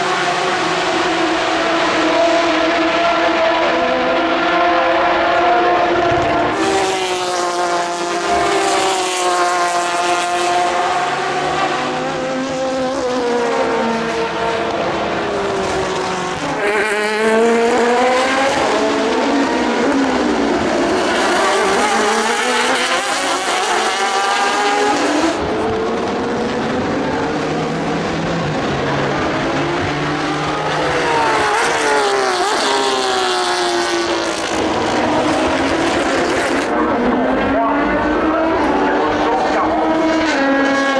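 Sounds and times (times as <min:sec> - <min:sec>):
race cars passing at speed: 0:00.0 - 0:40.9.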